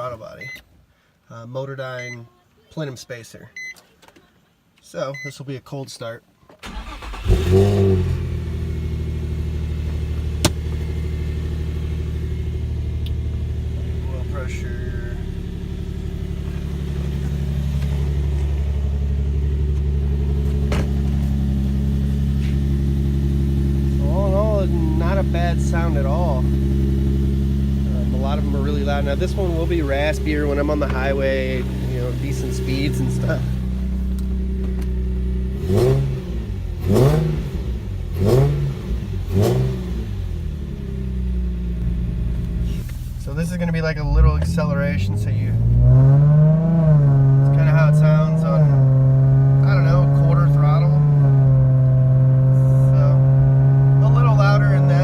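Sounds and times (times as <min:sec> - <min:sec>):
car engine idling: 0:06.6 - 0:55.0.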